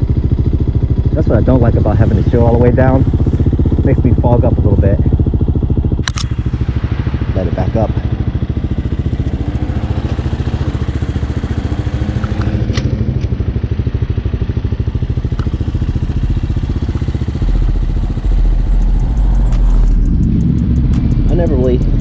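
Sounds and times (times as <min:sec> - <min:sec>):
deep low rumble: 0:00.0 - 0:22.0
motorcycle engine running: 0:00.0 - 0:22.0.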